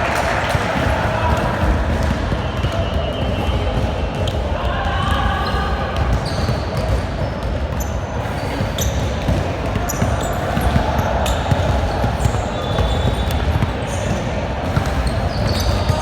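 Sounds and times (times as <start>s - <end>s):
murmur of voices: 0.0s - 16.0s
sneakers squeaking on court: 0.7s - 16.0s.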